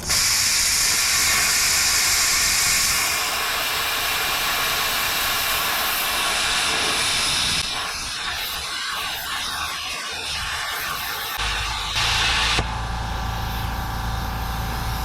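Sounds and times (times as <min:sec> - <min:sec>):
plasma cutter hissing: 0:00.0 - 0:15.0.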